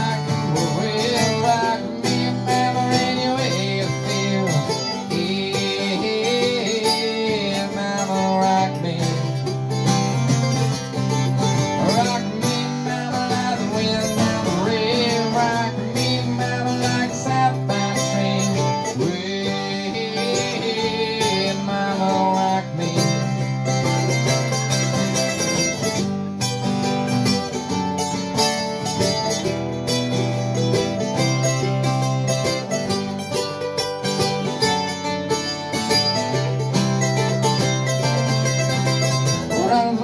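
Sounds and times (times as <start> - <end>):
acoustic folk guitar: 0.0 - 40.0.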